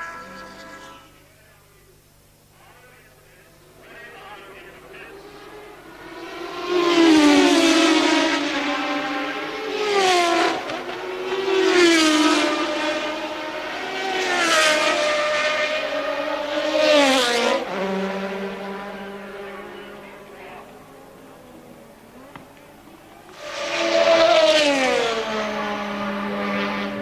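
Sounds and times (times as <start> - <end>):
race car engine at high revs: 3.6 - 27.0.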